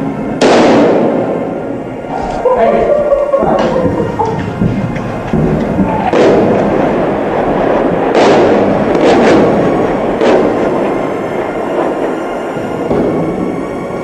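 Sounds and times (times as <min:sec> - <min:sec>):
loud sharp bangs: 0:00.0 - 0:01.7, 0:03.4 - 0:13.6
steady din: 0:00.0 - 0:14.0.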